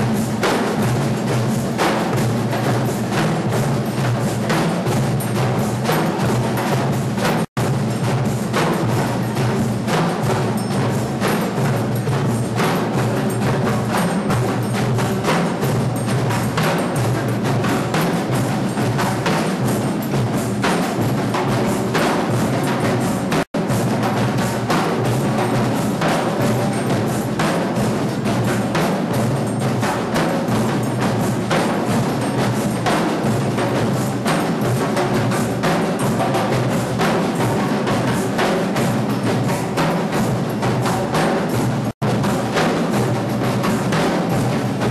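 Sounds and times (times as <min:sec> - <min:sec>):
percussion ensemble drumming: 0:00.0 - 0:44.9.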